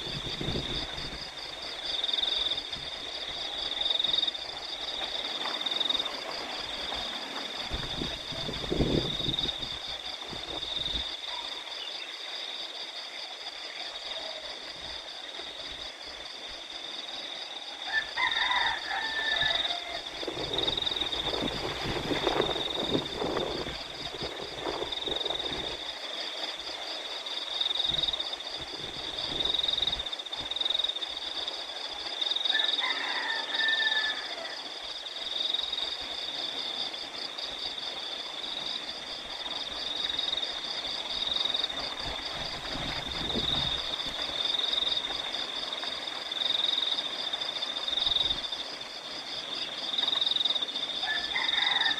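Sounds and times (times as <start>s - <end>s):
crickets and frogs chorus: 0.0s - 51.9s
rustling wind-like noise: 0.0s - 51.9s.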